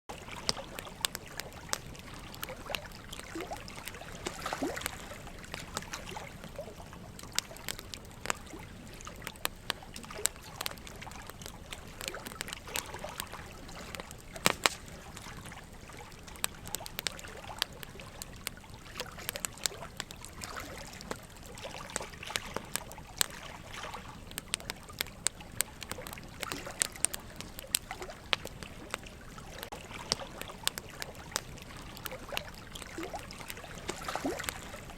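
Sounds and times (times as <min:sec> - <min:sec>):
wood fire crackling and popping: 0:00.1 - 0:34.9.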